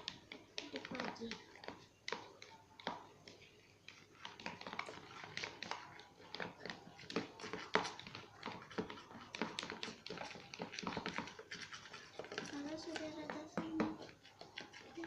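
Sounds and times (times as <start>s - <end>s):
spatula stirring sticky slime: 0.0s - 15.0s.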